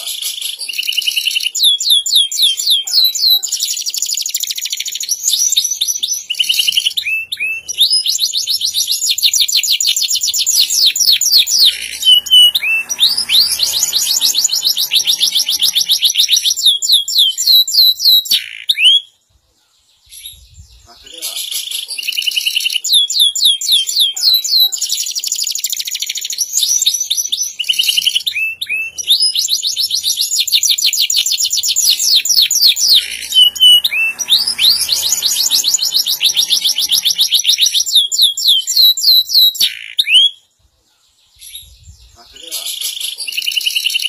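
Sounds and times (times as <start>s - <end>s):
canary singing trills: 0.0s - 19.2s, 19.9s - 44.0s.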